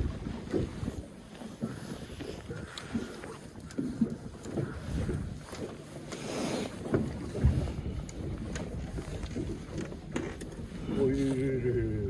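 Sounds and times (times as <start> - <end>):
wind buffeting the microphone: 0.0 - 5.9, 6.8 - 12.0
knocks and thumps on boat: 0.0 - 12.0
water slapping against boat hull: 0.0 - 12.0.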